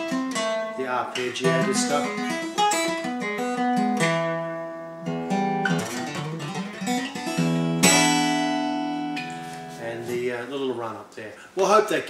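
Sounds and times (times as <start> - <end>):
fingerstyle acoustic guitar: 0.0 - 10.4.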